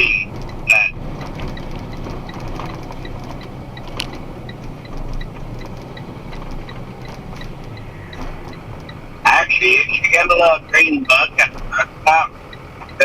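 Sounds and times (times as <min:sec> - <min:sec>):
truck engine and road rumble: 0:00.0 - 0:13.0
faint light ticking: 0:00.2 - 0:13.0.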